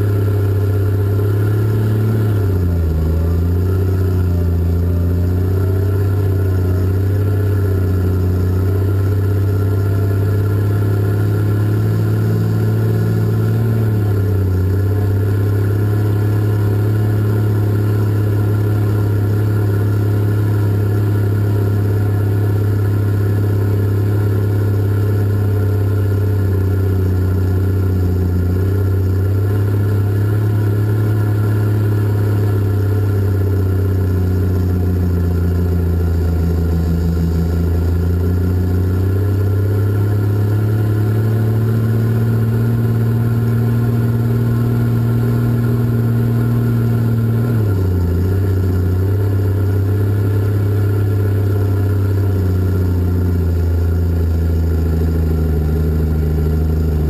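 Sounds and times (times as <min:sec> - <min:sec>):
diesel engines droning: 0:00.0 - 0:57.0.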